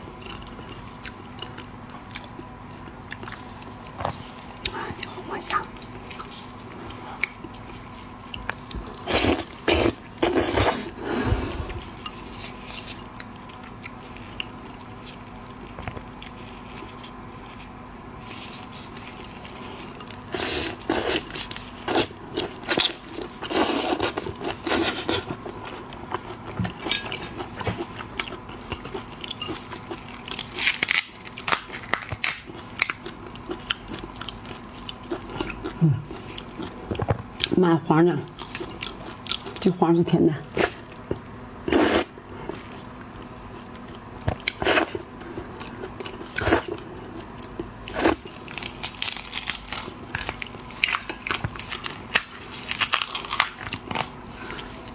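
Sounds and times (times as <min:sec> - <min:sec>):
crunching and chewing shellfish: 0:00.0 - 0:54.9.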